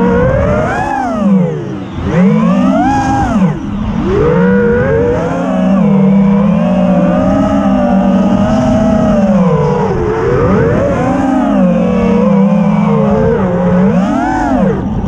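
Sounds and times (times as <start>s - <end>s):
drone motors whining: 0.0s - 15.0s
wind rumbling on microphone: 0.0s - 15.0s.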